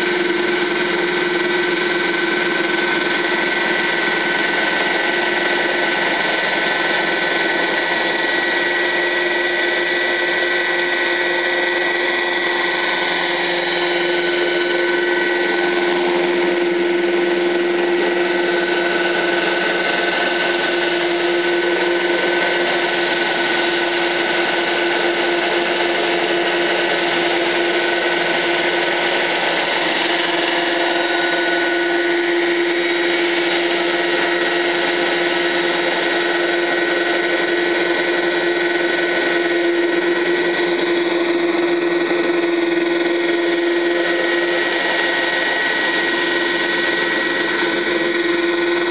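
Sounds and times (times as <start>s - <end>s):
helicopter engine and rotor: 0.0s - 48.9s.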